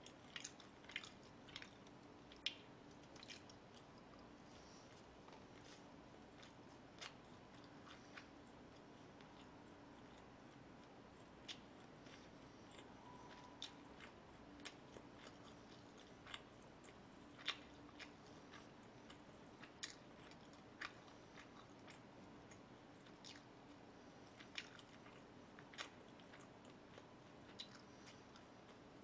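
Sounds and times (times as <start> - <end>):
person chewing: 0.0 - 28.8
faint room hum: 0.0 - 29.0.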